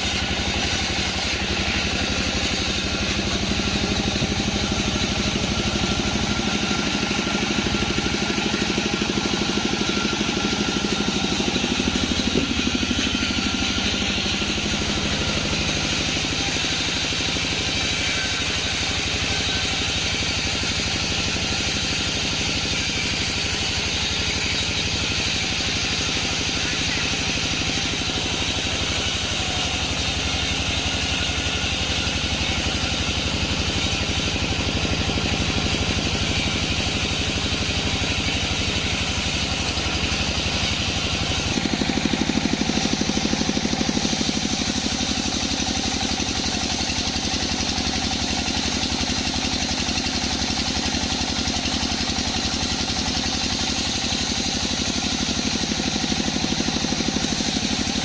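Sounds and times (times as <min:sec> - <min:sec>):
bandsaw machinery running: 0:00.0 - 0:58.0.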